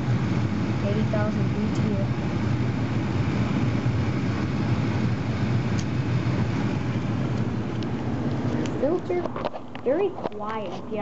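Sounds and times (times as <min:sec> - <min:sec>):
gas furnace burners rushing: 0:00.0 - 0:11.0
low hum: 0:00.0 - 0:11.0.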